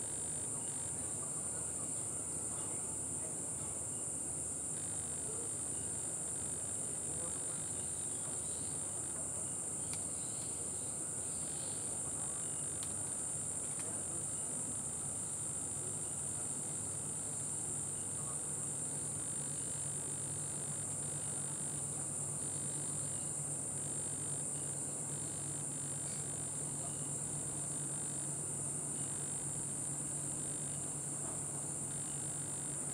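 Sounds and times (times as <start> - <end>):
night insects trilling: 0.0 - 32.9.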